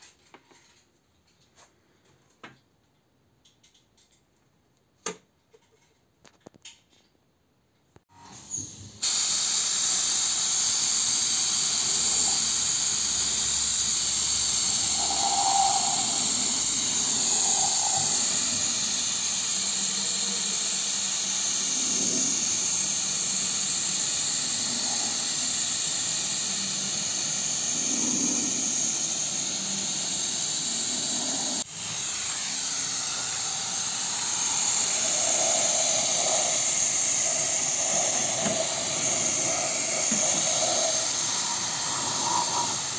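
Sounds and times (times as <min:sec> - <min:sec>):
paint spray gun hissing: 0:08.4 - 0:42.9.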